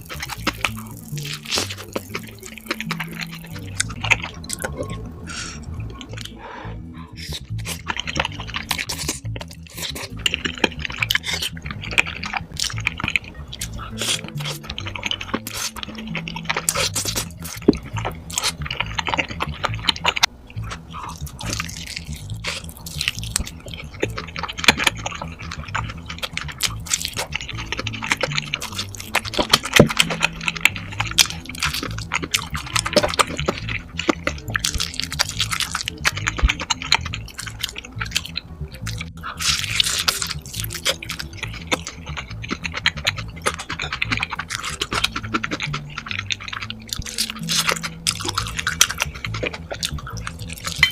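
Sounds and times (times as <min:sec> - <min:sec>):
quick chewing and mouth clicks: 0:00.0 - 0:06.4, 0:07.2 - 0:50.9
background music with low bass: 0:00.0 - 0:50.9.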